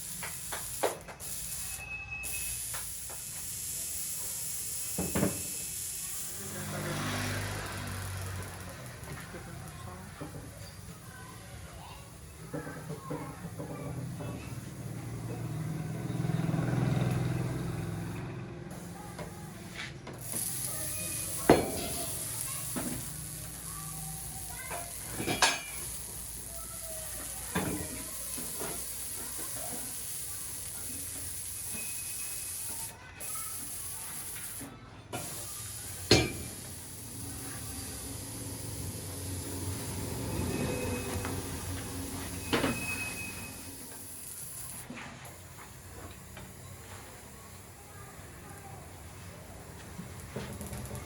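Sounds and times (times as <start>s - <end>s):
steady hiss: 0.0s - 15.9s, 18.8s - 50.9s.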